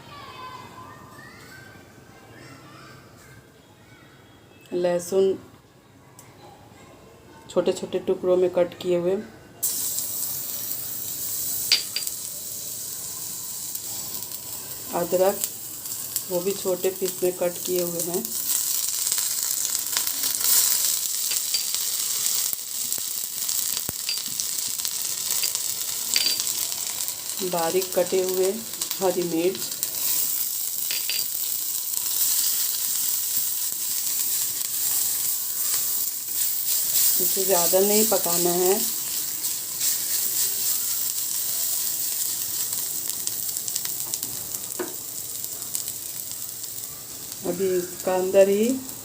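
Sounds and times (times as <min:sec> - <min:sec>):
garlic sizzling in hot oil: 0:09.6 - 0:49.0.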